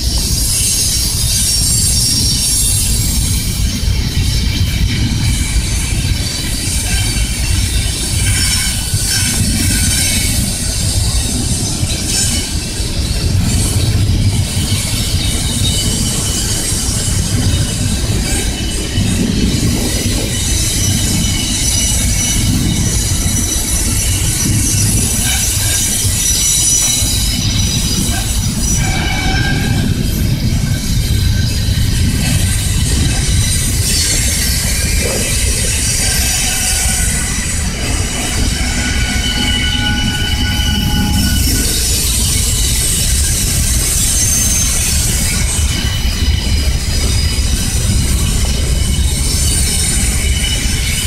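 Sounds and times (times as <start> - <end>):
freight train rumbling: 0.0 - 51.0
train wheels squealing on rail: 0.0 - 51.0.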